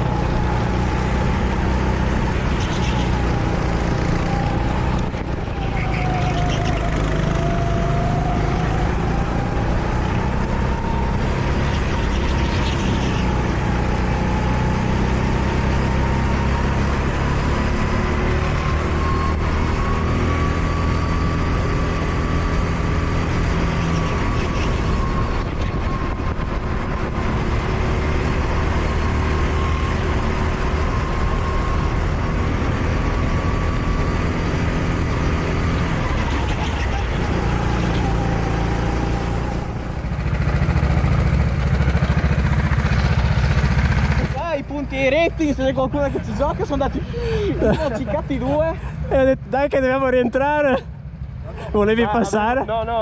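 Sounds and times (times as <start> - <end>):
go-kart engine running: 0.0 - 44.5.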